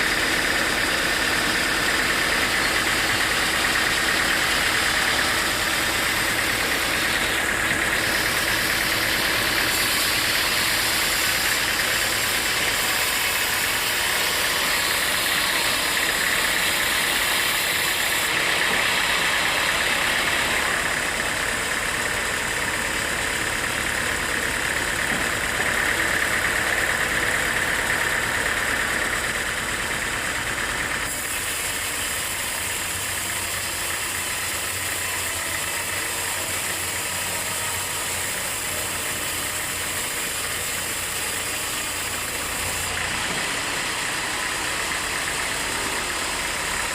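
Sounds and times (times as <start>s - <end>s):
engine-driven saw running: 0.0s - 46.9s.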